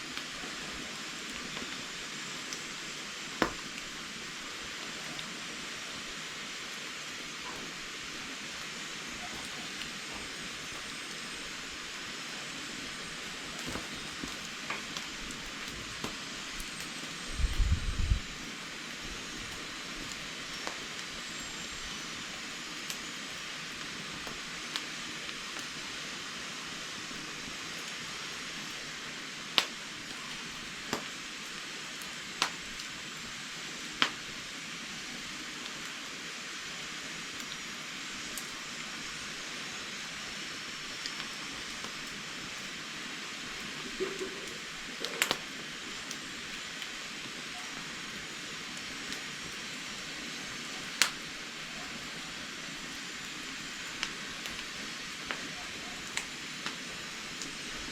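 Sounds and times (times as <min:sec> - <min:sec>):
fire ticks and pops: 0:00.0 - 0:57.9
loud fire snaps: 0:00.0 - 0:57.9
wood fire hissing: 0:00.0 - 0:57.9.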